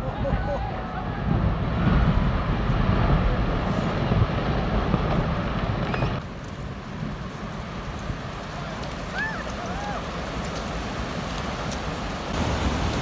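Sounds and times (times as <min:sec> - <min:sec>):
glacier collapsing into sea rumble: 0:00.1 - 0:13.0.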